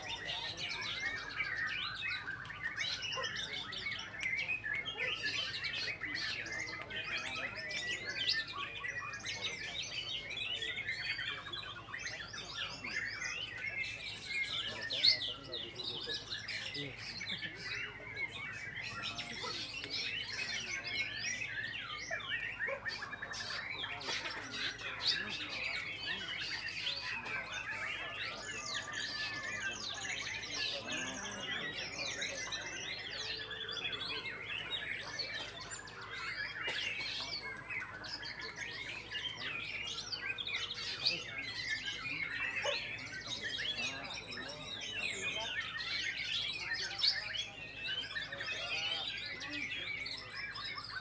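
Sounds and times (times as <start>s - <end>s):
chorus of songbirds: 0.0s - 51.0s.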